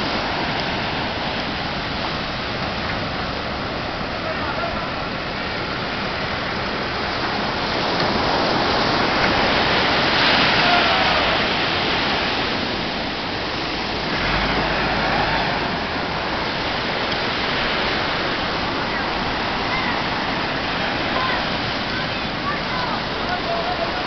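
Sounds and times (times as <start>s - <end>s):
sea surf rushing on shore: 0.0s - 24.0s.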